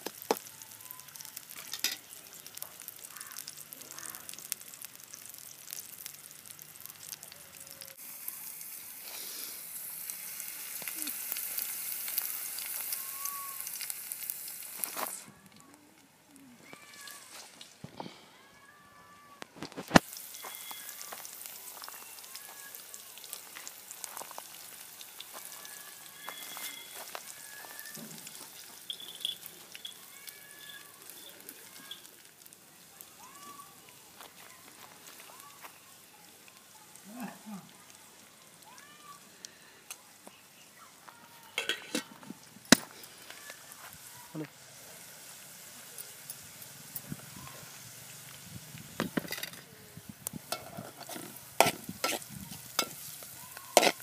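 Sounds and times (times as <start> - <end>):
onions sizzling in oil: 0.0 - 15.5, 19.6 - 54.0.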